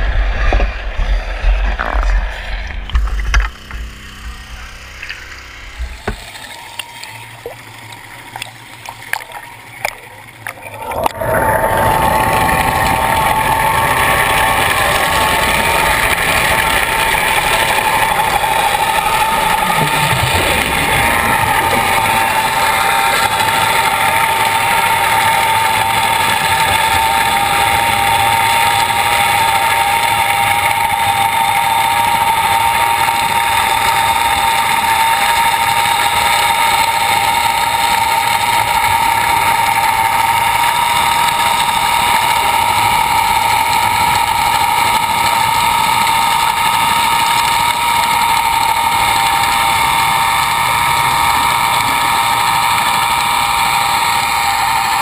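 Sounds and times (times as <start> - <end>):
underwater mechanical whine: 0.0 - 55.0.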